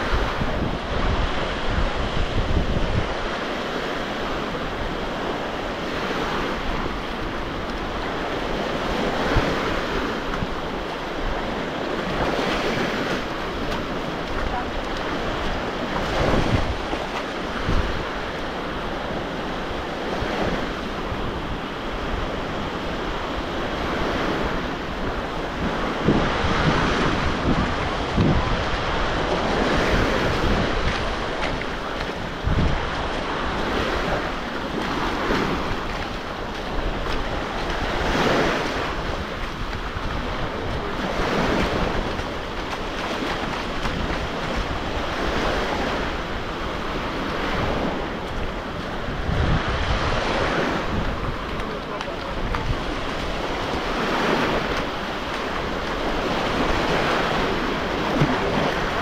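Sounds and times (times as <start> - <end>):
surf washing onto shore: 0.0 - 59.0
wind buffeting microphone: 0.0 - 59.0.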